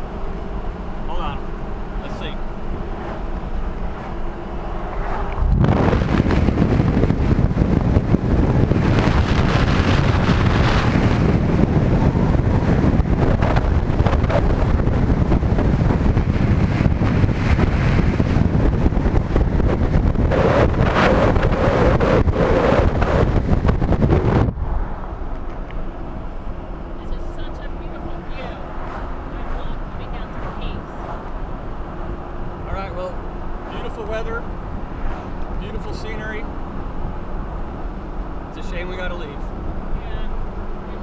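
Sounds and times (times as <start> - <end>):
wind buffeting microphone: 1.6 - 40.9.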